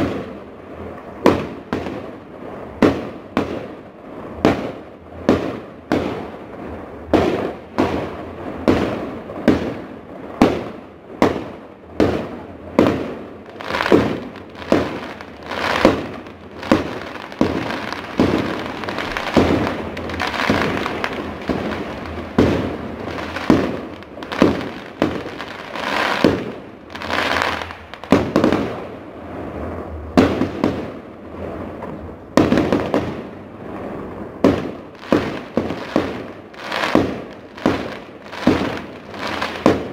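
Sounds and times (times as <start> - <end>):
fireworks bursting: 0.0 - 39.9
fireworks crackle: 0.0 - 39.9.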